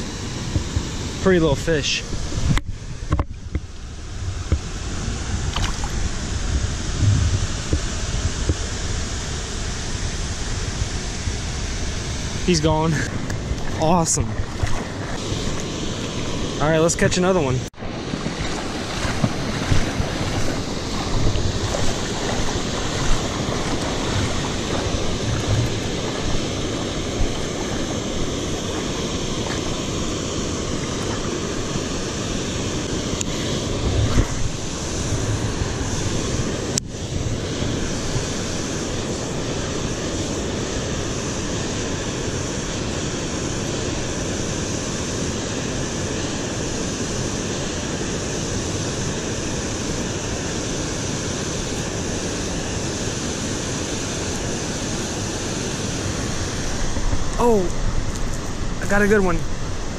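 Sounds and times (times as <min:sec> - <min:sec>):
wind blowing across microphone: 0:00.0 - 0:59.9
river water rushing: 0:11.5 - 0:59.9.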